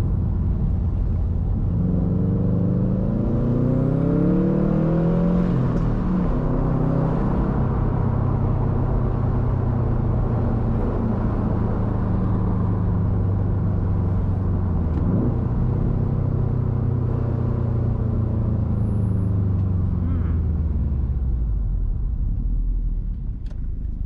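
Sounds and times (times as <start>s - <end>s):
car engine droning at low revs: 0.0s - 24.0s.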